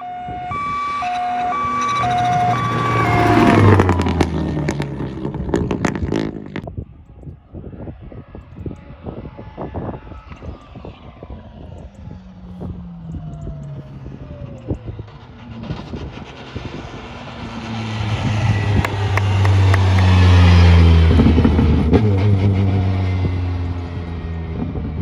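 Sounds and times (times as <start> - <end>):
rally car engine passing: 0.8 - 6.7, 8.7 - 25.0.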